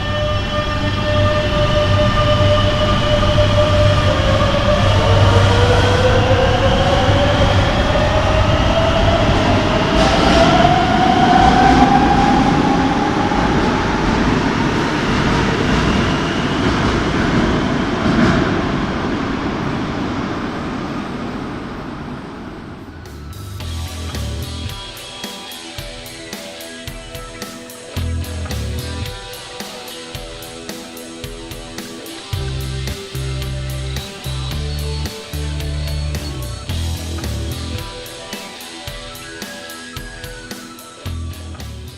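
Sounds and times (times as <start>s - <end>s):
train wheels rumbling: 0.0s - 40.4s
train traction motors whining: 0.0s - 41.9s.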